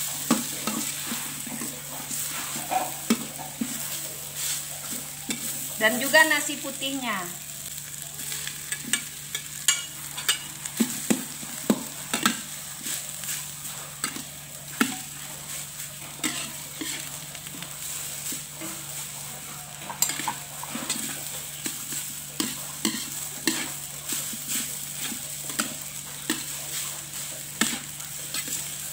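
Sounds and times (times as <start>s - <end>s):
food sizzling: 0.0s - 28.9s
spatula scraping metal wok: 0.0s - 28.9s.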